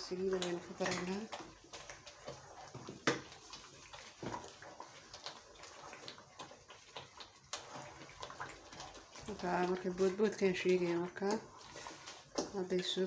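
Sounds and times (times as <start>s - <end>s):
wooden spoon scraping pot: 0.1s - 13.0s.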